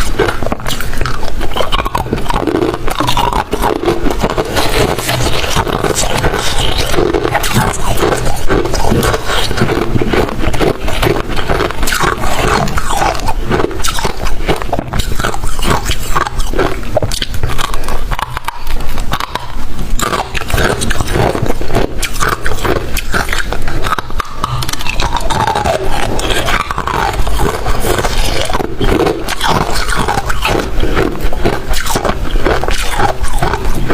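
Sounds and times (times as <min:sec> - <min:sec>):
frost being chewed: 0:00.0 - 0:33.9.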